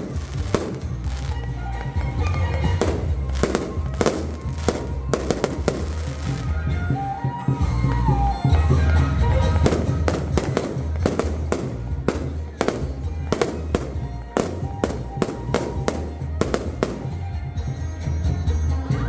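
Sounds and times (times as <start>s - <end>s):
fireworks bangs: 0.0s - 7.1s, 8.8s - 17.5s
music with steady bass: 0.0s - 19.0s.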